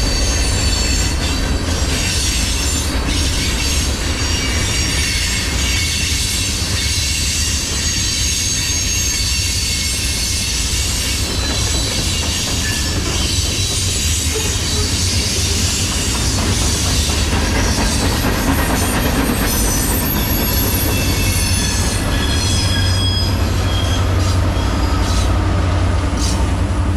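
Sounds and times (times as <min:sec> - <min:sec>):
steel wheel squeal: 0:00.0 - 0:25.4
freight train cars rumbling: 0:00.0 - 0:26.9.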